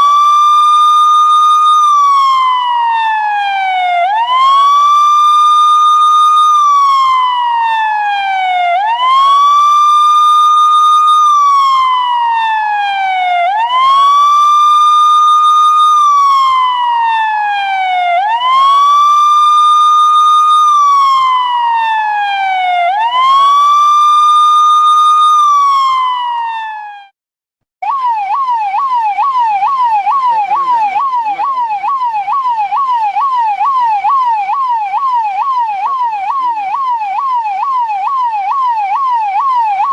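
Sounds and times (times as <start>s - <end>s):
siren fast yelp: 0.0s - 27.1s, 27.8s - 39.9s
police siren wailing: 0.0s - 27.2s, 27.8s - 39.9s.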